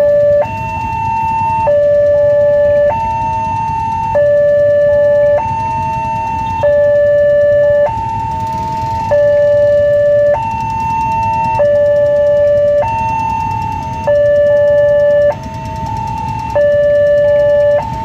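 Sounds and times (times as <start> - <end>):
level crossing two-tone alarm: 0.0 - 18.0.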